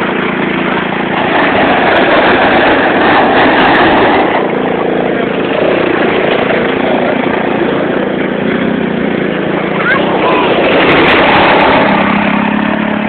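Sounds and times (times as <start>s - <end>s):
quad bike engine passing: 0.0s - 13.0s.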